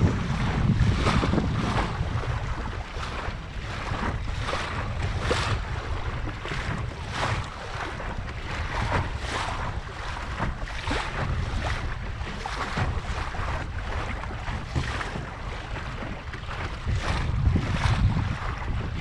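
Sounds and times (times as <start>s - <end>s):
water splashing along hull: 0.0s - 19.0s
wind rumble on microphone: 0.0s - 19.0s.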